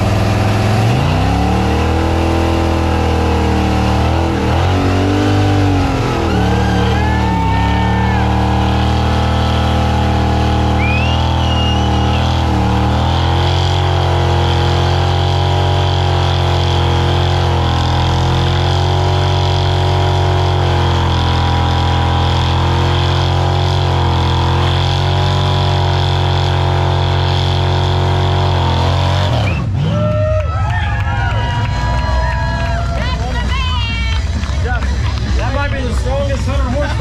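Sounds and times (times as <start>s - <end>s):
tires spinning on pavement: 0.0s - 37.0s
truck engine at high revs: 0.0s - 37.0s.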